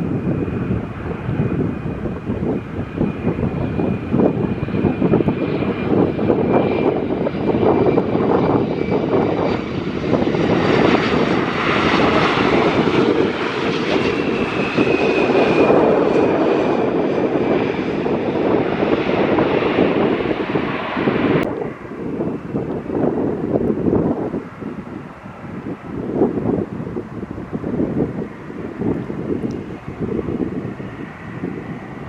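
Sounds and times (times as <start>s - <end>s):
airliner engines running: 0.0s - 32.0s.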